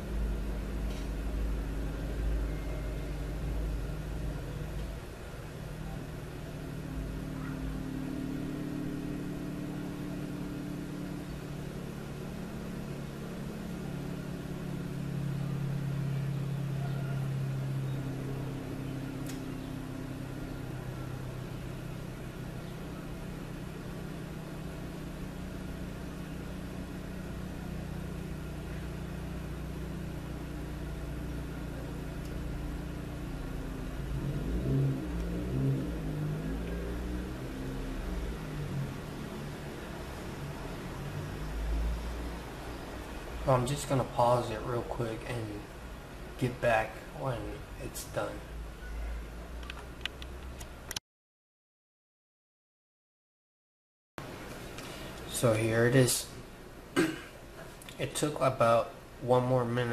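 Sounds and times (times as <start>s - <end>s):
low mechanical hum: 0.0s - 51.0s, 54.2s - 59.9s.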